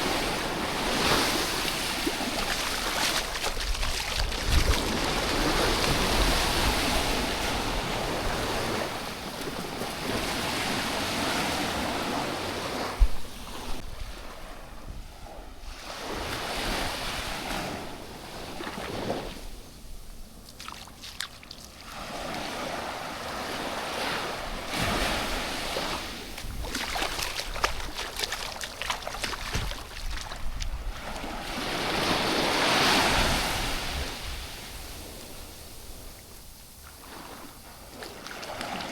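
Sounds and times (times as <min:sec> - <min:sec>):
sea surf washing up beach: 0:00.0 - 0:38.9.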